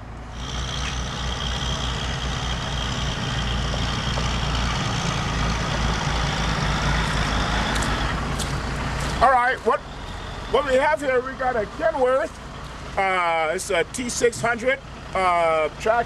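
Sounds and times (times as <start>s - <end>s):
diesel engine rumble: 0.0s - 16.0s.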